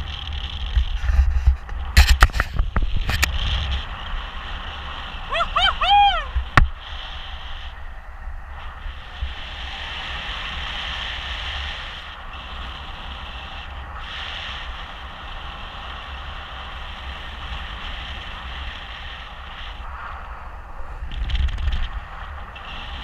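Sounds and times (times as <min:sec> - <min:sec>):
low rumbling wind buffet: 0:00.0 - 0:23.0
airflow rushing over microphone: 0:00.7 - 0:23.0.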